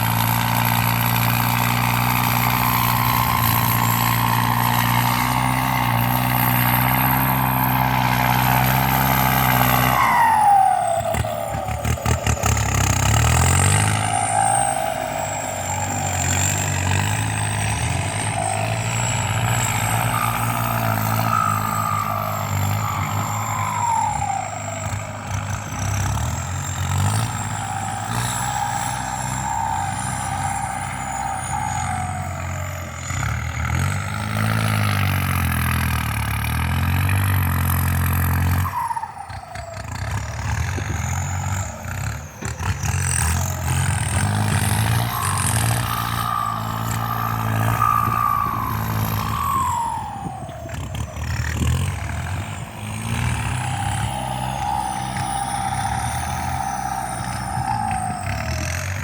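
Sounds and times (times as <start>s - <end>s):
tractor diesel engine working: 0.0s - 59.0s
turbocharger whistle: 0.0s - 59.0s.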